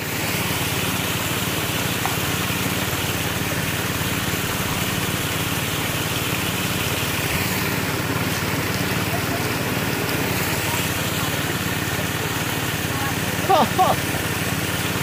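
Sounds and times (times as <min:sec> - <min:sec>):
small engine running: 0:00.0 - 0:15.0
water splashing: 0:00.0 - 0:15.0.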